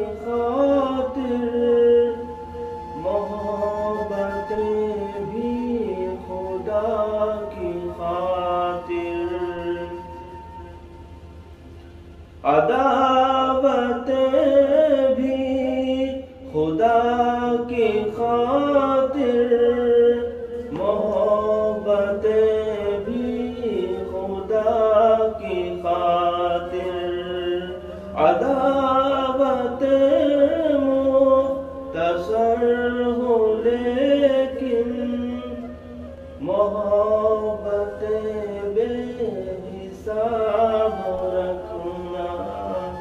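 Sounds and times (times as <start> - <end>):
man singing: 0.0 - 10.8, 12.4 - 43.0.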